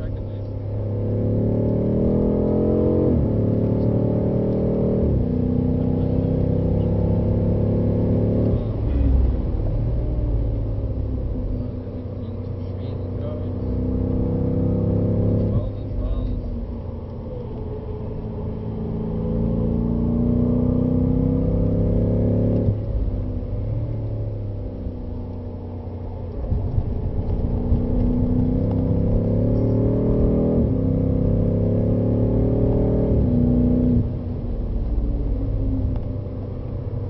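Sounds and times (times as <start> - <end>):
car engine accelerating: 0.0 - 37.0
road and tyre rumble: 0.0 - 37.0.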